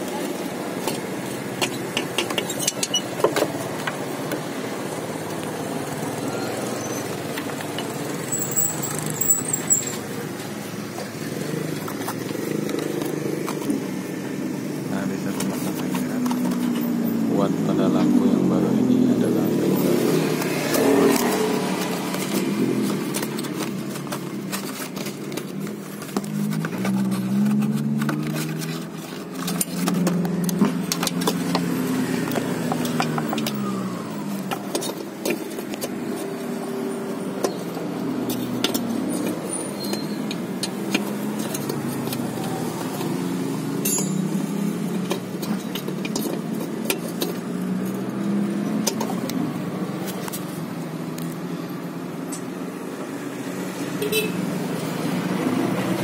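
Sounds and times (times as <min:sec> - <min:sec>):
vehicle engines running: 0:00.0 - 0:56.0.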